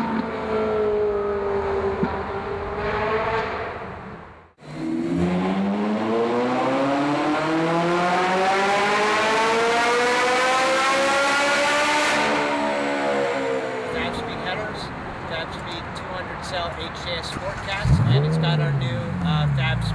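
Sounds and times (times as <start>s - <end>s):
sports car engine revving: 0.0s - 14.7s, 17.4s - 19.9s.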